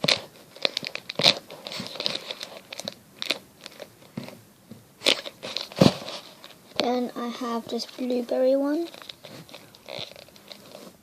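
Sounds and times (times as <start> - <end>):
squishy crinkling and crunching: 0.0 - 4.4, 5.0 - 11.0.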